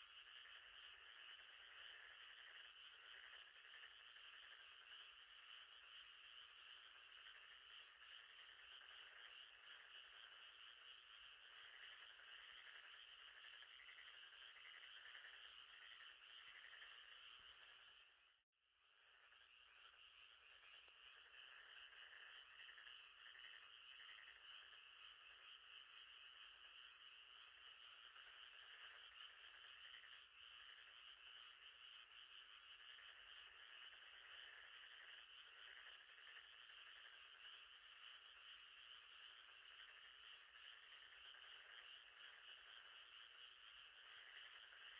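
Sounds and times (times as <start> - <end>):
frogs calling: 0.0 - 18.3, 19.0 - 44.9.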